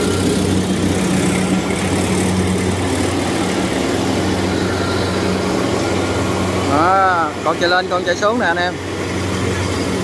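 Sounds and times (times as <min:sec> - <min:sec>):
diesel engine running: 0:00.0 - 0:10.0
machinery clatter: 0:00.0 - 0:10.0.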